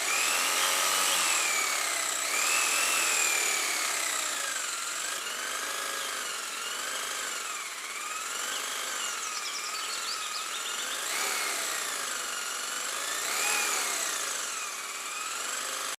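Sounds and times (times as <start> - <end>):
small motor whining: 0.0 - 16.0.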